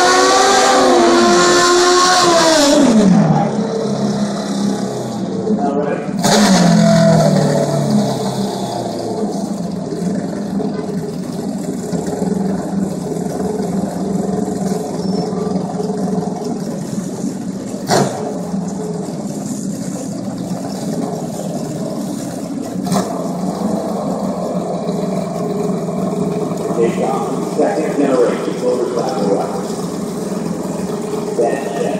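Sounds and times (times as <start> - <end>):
motorcycle engines idling: 3.0 - 31.9.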